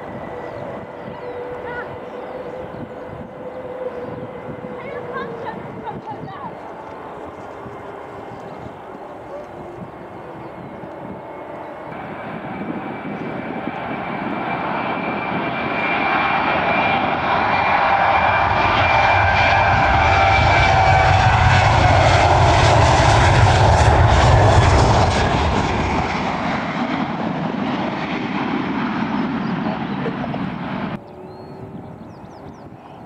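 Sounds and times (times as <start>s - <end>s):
jet engines at takeoff thrust: 0.0s - 33.0s.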